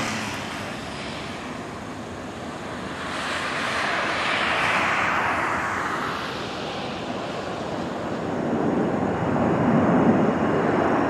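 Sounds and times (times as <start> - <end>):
airliner rushing overhead: 0.0 - 11.0.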